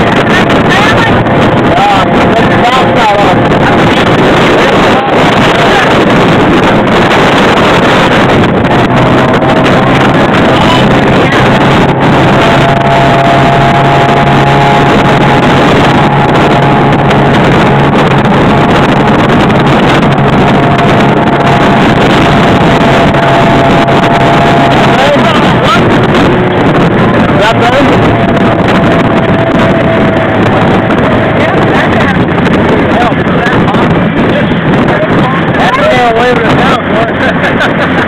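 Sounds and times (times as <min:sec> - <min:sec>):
motorboat engine hum: 0:00.0 - 0:38.0
water rushing: 0:00.0 - 0:38.0
wind rushing: 0:00.0 - 0:38.0.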